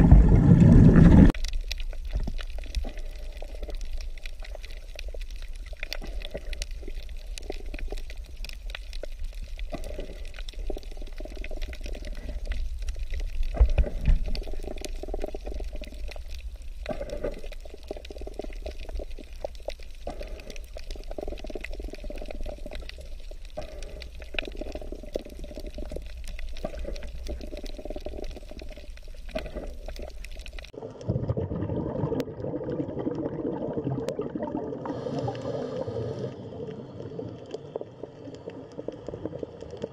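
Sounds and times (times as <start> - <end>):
crackling clicks: 0.0 - 30.8, 36.6 - 39.9
muffled underwater rumble: 0.0 - 39.9.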